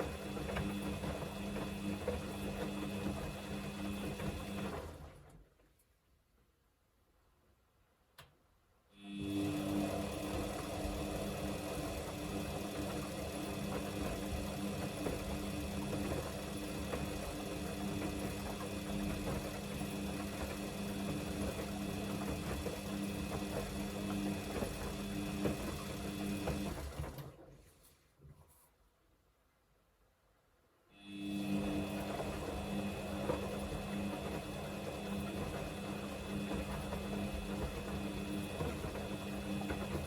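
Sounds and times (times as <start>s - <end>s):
washing machine motor hum: 0.0s - 5.6s, 9.0s - 27.8s, 31.0s - 40.0s.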